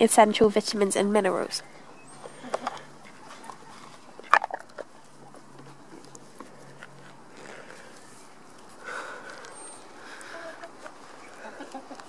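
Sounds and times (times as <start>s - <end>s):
hens pecking: 0.0s - 12.0s.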